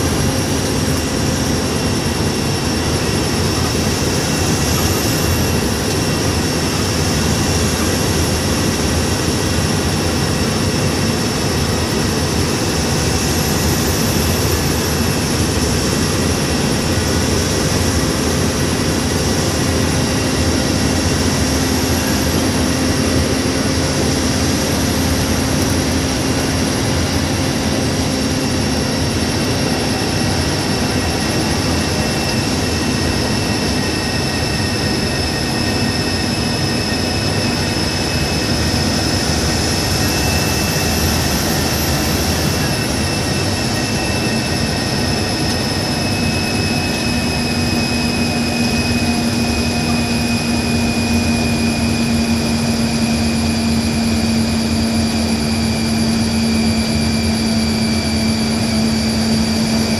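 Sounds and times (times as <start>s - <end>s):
constant whine: 0.0s - 59.9s.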